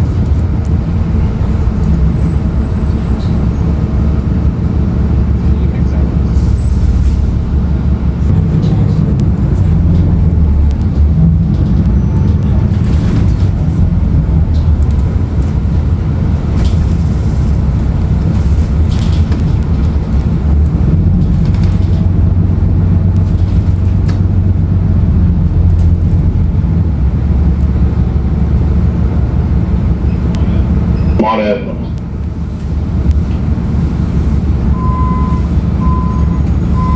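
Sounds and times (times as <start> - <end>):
bus diesel engine rumble: 0.0 - 36.9.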